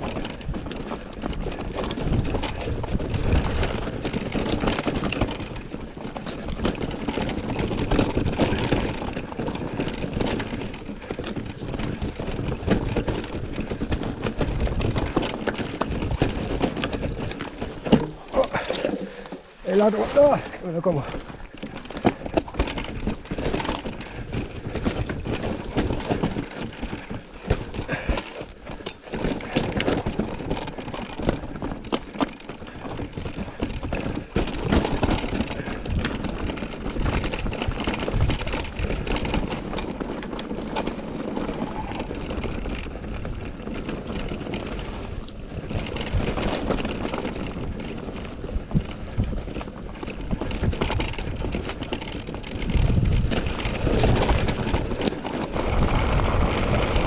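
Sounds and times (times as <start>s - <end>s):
bike tyres clattering over rocks: 0.0s - 57.0s
wind noise on microphone: 0.0s - 57.0s.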